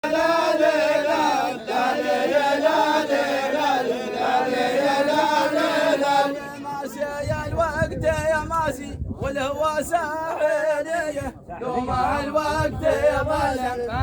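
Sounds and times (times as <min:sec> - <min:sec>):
voices chanting in unison: 0:00.0 - 0:08.0, 0:08.7 - 0:14.0.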